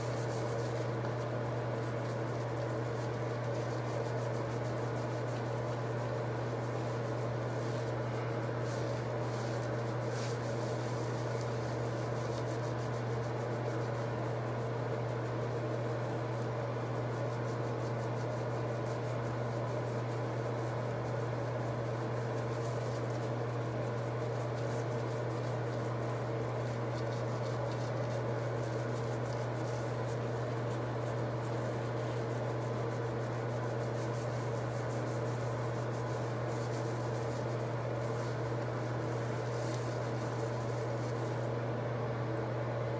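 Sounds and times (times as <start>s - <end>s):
fingers massaging shampoo lather: 0.0s - 41.5s
steady low hum: 0.0s - 42.9s.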